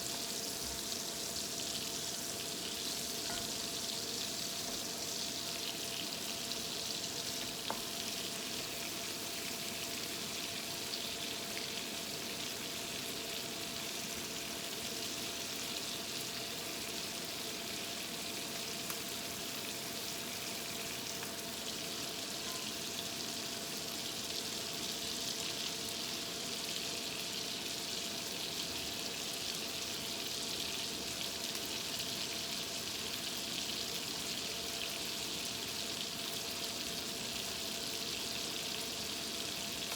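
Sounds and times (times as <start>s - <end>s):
food sizzling in a hot pan: 0.0s - 39.9s.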